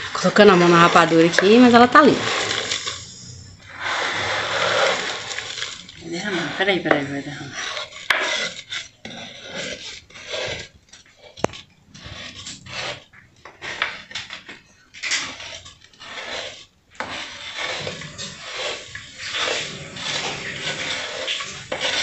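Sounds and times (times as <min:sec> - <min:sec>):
wooden spoon scraping board: 0:00.0 - 0:22.0.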